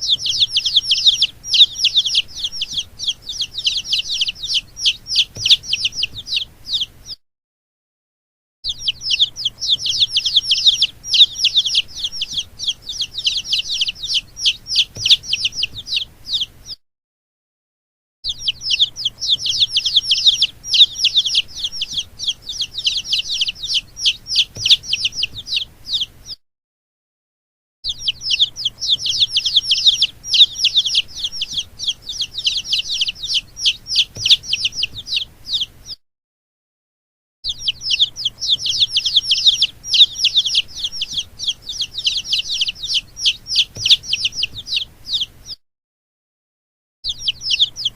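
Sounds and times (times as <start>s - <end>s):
baby chicks peeping: 0.0s - 7.2s, 8.7s - 16.8s, 18.3s - 26.4s, 27.8s - 36.0s, 37.4s - 45.6s, 47.0s - 47.9s.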